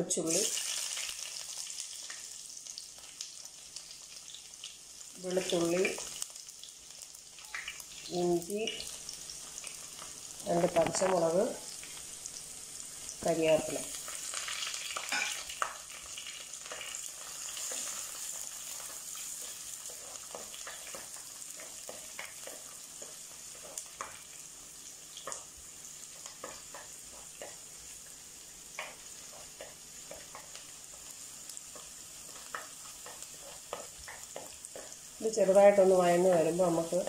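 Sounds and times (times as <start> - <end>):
vegetables sizzling in hot oil: 0.0 - 37.0.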